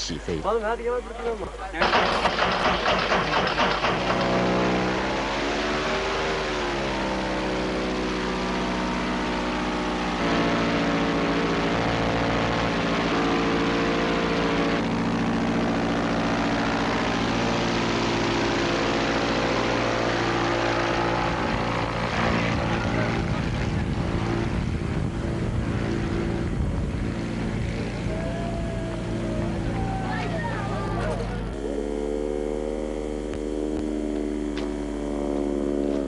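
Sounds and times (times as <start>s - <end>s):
propeller aircraft engine running: 0.0s - 36.0s.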